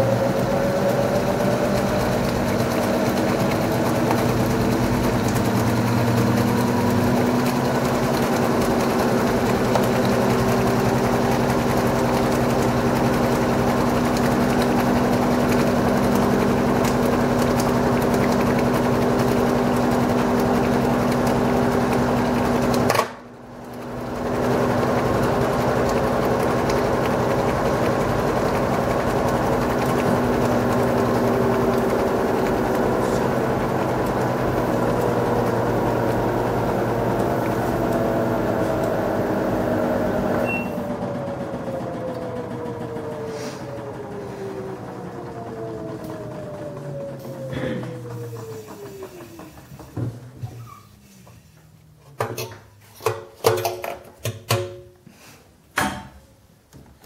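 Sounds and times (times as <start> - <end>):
washing machine motor hum: 0.0 - 54.8.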